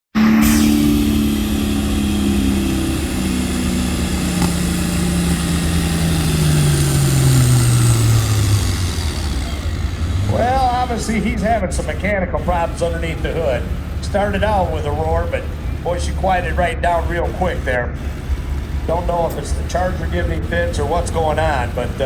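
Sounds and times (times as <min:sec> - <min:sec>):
tractor engine running under load: 0:00.2 - 0:22.0.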